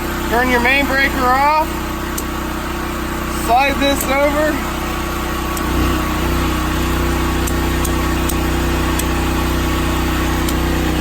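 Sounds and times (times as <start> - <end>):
generator engine humming: 0.0 - 11.0.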